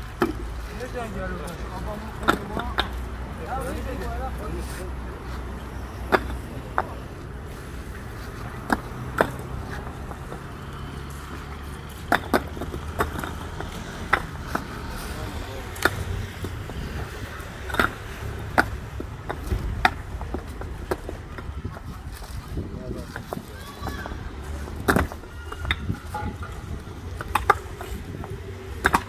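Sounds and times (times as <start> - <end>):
paving stones clacking: 0.0 - 29.0.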